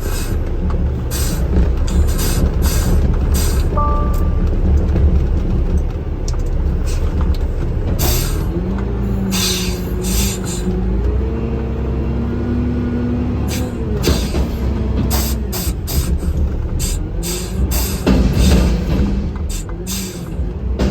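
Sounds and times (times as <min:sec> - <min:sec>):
vehicle engine and road rumble: 0:00.0 - 0:20.9.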